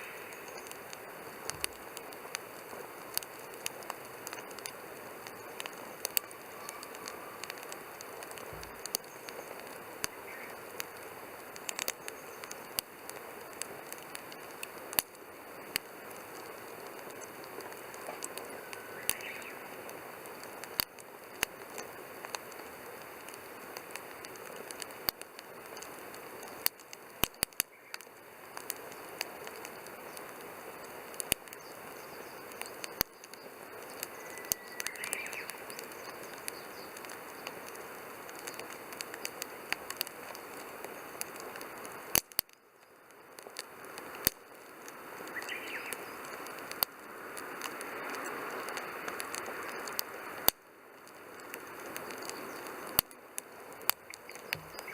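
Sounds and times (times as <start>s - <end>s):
campfire hissing: 0.0s - 54.9s
wood popping and crackling: 0.0s - 54.9s.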